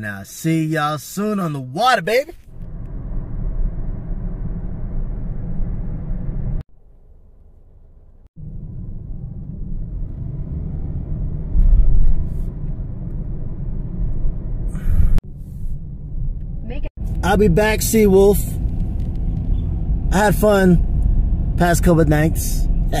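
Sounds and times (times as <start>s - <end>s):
moving vehicle rumbling: 2.4s - 23.0s.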